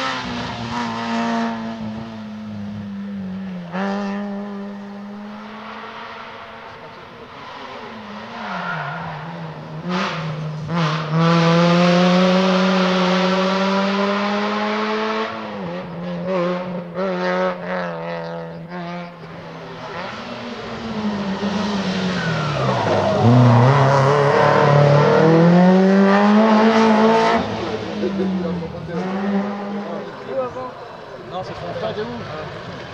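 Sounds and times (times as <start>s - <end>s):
rally car engine revving: 0.0s - 32.9s.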